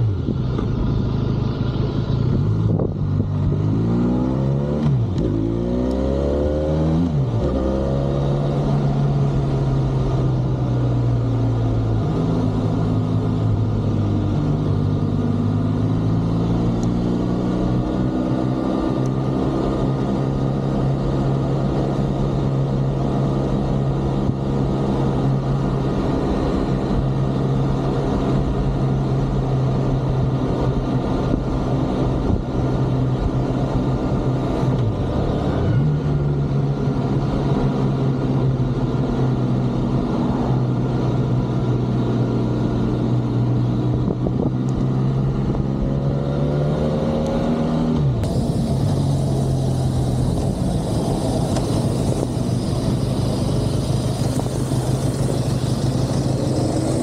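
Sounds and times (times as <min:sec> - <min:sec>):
motorcycle engine revving: 0:00.0 - 0:27.4, 0:30.2 - 0:57.0.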